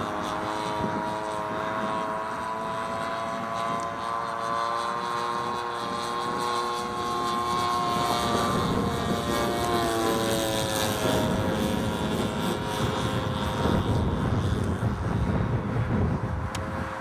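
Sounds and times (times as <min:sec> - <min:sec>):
propeller biplane engine overhead: 0:00.0 - 0:17.0
wind rumble on microphone: 0:00.0 - 0:17.0.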